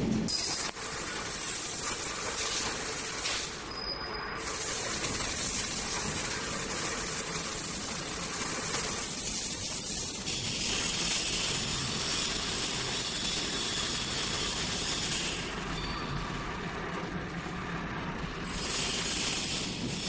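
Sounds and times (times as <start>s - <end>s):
pipe extrusion line hissing: 0.2s - 20.0s.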